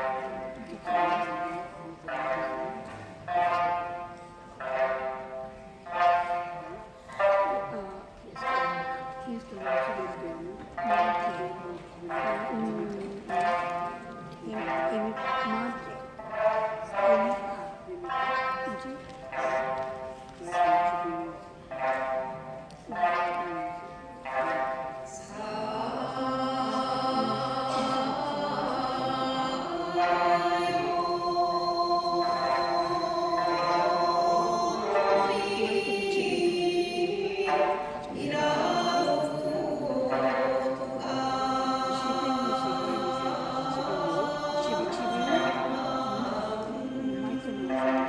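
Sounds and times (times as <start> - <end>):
group singing folk song: 0.0 - 17.8, 24.4 - 48.0
sanshin playing: 0.0 - 48.0.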